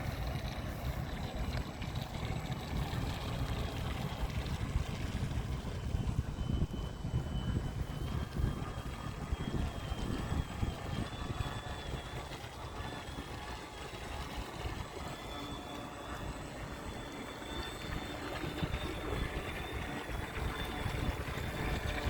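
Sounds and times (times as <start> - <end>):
high motor whine: 0.0 - 22.0
wind buffeting microphone: 0.0 - 22.0.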